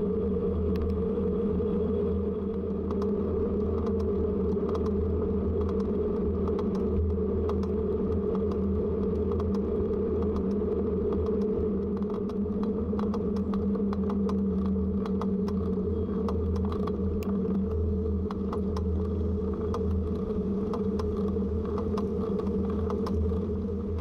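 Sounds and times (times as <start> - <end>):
bicycle riding on road: 0.1 - 24.0
small clicks and rattles: 2.8 - 24.0.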